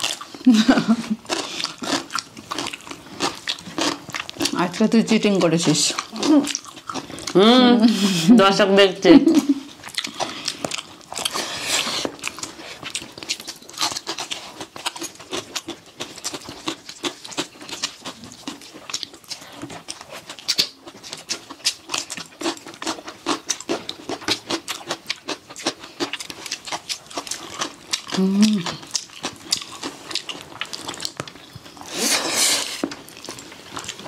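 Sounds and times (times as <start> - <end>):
people chewing with wet smacks: 0.0 - 34.0.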